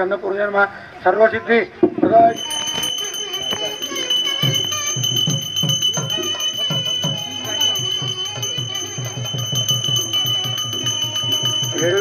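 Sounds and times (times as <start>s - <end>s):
voices: 1.3s - 12.0s
hand bell ringing: 2.3s - 12.0s
rhythmic low beat: 2.3s - 12.0s.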